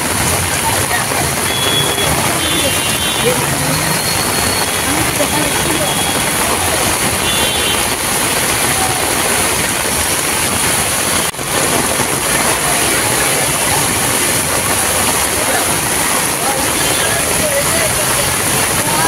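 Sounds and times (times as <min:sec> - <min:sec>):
heavy rain on street: 0:00.0 - 0:19.0
traffic engines running: 0:00.0 - 0:19.0.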